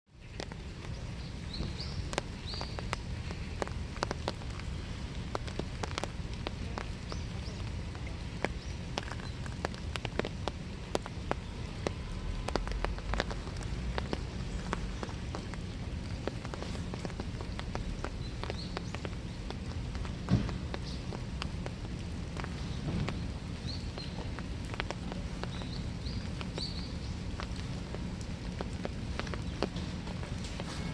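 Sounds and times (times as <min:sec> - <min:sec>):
raindrops tapping: 0:00.1 - 0:30.9
steady low rumble: 0:00.1 - 0:30.9.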